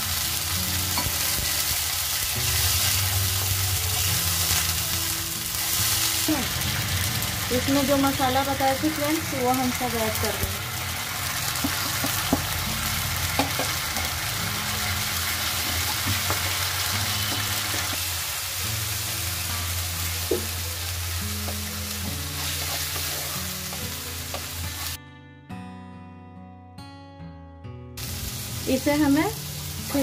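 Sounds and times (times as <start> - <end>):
masala sizzling in oil: 0.0 - 25.0, 28.0 - 30.0
soft background music: 0.0 - 30.0.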